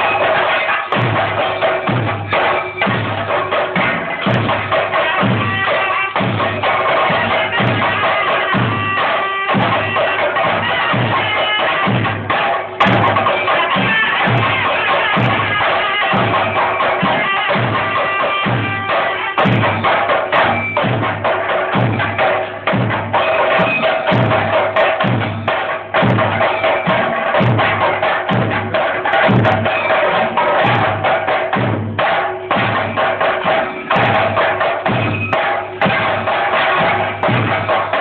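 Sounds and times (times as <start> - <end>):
drums beaten fast with sticks: 0.0 - 38.0.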